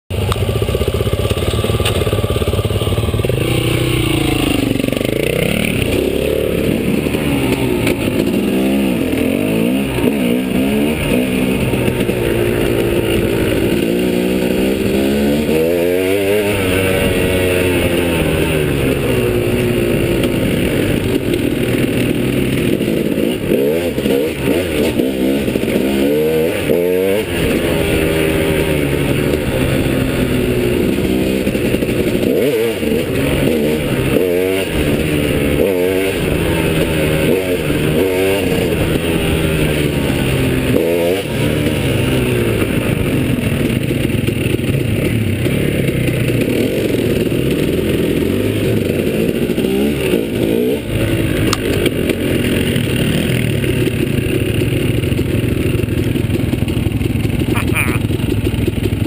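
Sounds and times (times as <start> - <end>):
motorcycle engine revving: 0.1 - 59.0.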